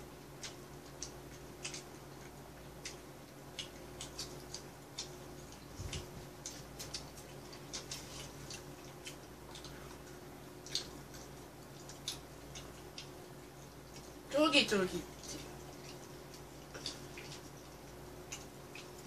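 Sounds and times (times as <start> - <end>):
crunchy chewing: 0.0 - 14.3, 15.0 - 19.0.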